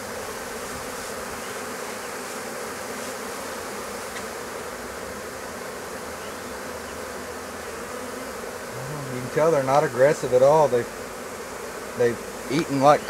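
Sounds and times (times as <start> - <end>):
bee swarm humming: 0.0 - 13.0.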